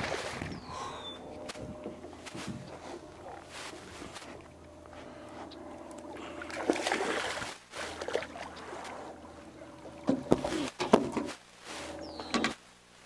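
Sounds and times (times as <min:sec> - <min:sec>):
fish splashing in water: 0:00.0 - 0:10.8
steady low hum: 0:00.0 - 0:13.0.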